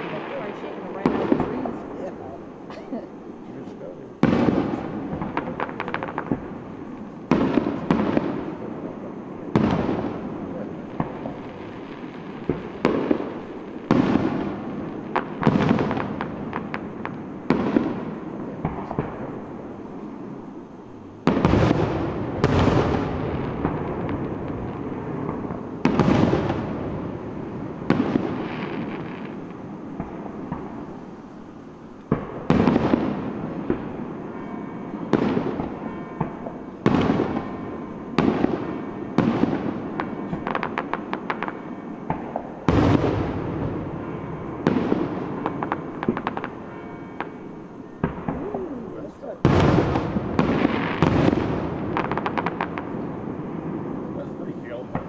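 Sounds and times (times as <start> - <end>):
fireworks booming: 0.0 - 55.0
fireworks crackling: 0.0 - 55.0.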